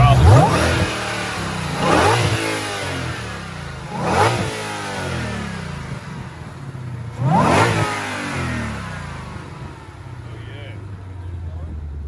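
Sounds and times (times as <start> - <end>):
car engine revving: 0.0 - 12.0
supercharger whine: 0.0 - 12.0.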